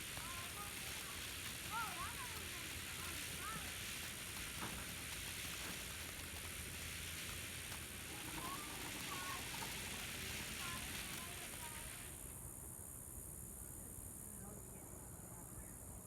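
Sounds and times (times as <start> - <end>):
firework fountains hissing: 0.0 - 13.7.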